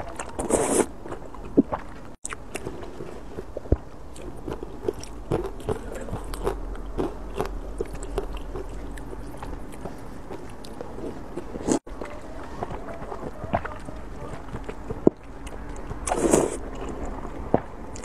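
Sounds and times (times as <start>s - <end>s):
chewing with wet mouth clicks: 0.0s - 18.0s.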